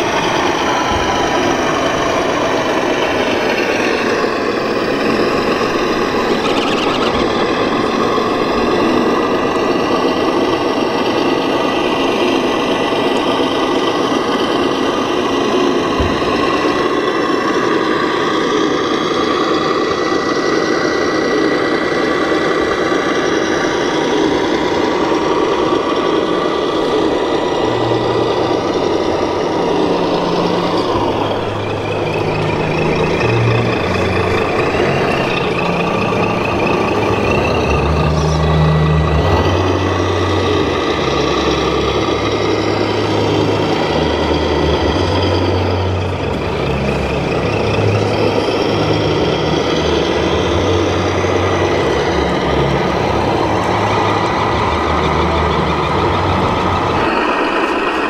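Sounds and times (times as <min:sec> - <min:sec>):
crowd noise: 0:00.0 - 0:58.0
toy diesel truck engine sound: 0:00.0 - 0:58.0.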